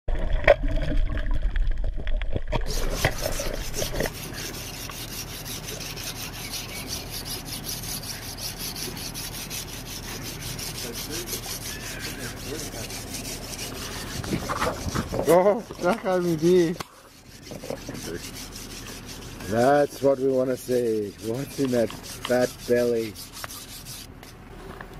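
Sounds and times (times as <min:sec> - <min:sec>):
knife rasping: 0:02.7 - 0:24.1.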